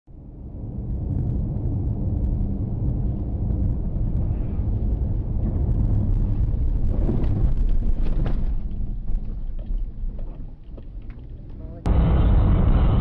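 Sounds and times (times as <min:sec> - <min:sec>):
car driving rumble: 0:00.1 - 0:13.0.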